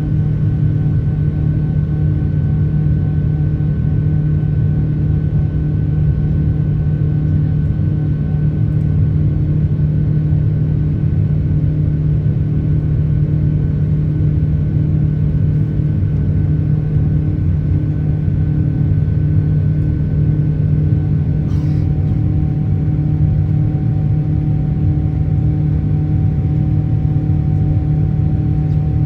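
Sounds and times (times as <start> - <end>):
airplane cabin engine drone: 0.0 - 29.0.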